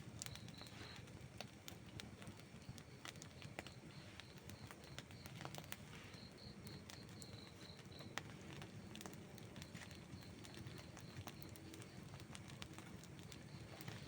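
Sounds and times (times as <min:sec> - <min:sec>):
low rumble of burning: 0:00.0 - 0:14.0
wood fire crackling: 0:00.0 - 0:14.0.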